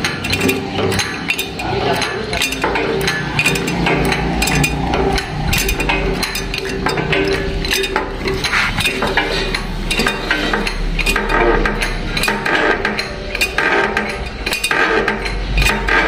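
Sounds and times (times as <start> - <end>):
metallic clinks and knocks: 0.0 - 16.0.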